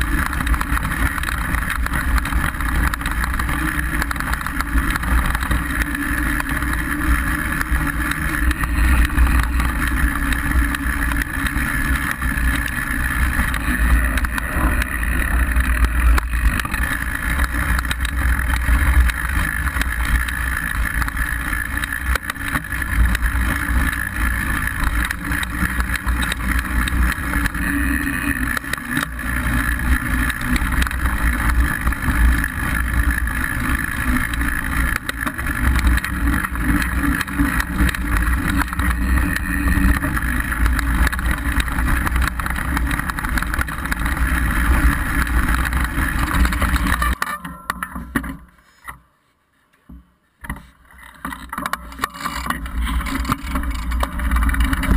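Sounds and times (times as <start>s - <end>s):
tyres rumbling on dirt: 0.0s - 48.5s, 50.4s - 54.9s
bike rattles and knocks: 0.0s - 49.1s, 49.7s - 54.9s.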